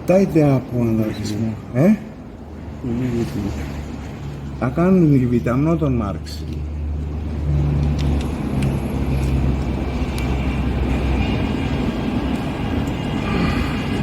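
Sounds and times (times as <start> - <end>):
low mechanical hum and rumble: 0.0 - 14.0.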